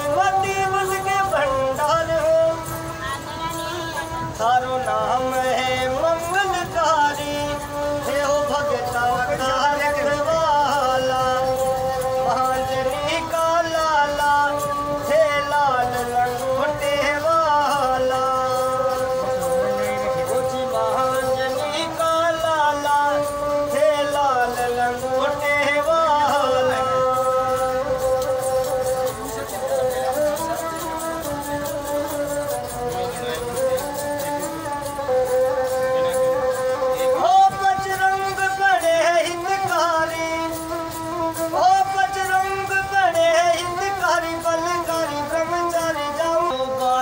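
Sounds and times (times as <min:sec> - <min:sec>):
bowed fiddle melody with drone: 0:00.0 - 0:47.0
man singing: 0:00.0 - 0:47.0.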